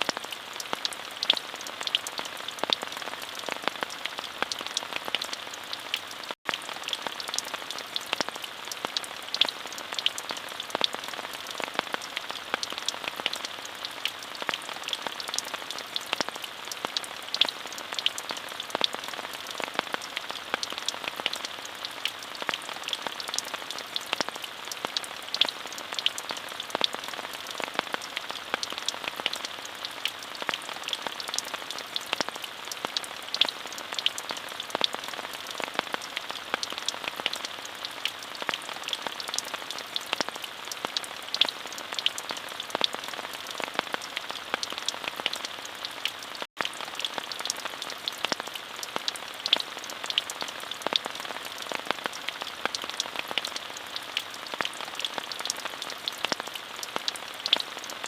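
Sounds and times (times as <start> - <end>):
rain falling: 0.0 - 58.0
raindrop ticks: 0.0 - 58.0.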